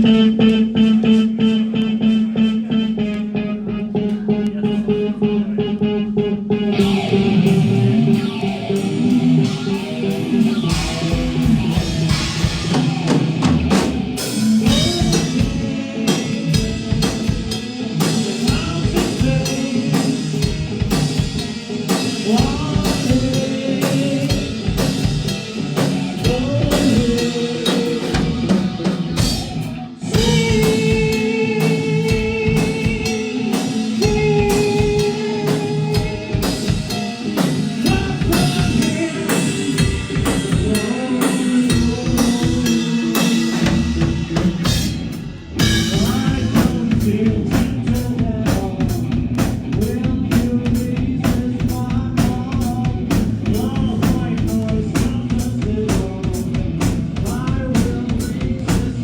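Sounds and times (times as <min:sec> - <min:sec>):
drum kit beat: 0:00.0 - 0:05.0, 0:06.2 - 0:59.0
rock band playing: 0:00.0 - 0:59.0.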